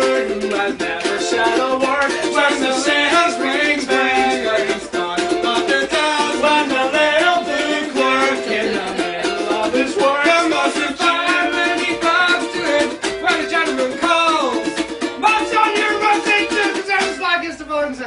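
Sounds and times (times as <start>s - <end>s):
ukulele strumming: 0.0s - 17.5s.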